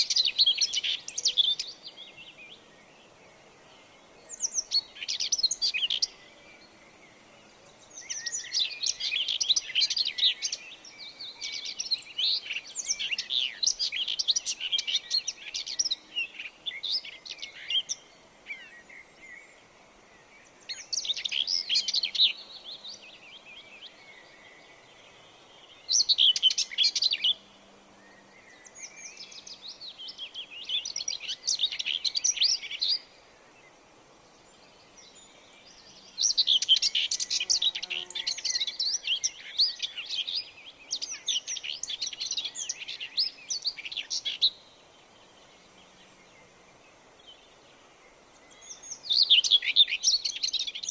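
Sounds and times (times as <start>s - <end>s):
birds twittering: 0.0s - 50.9s.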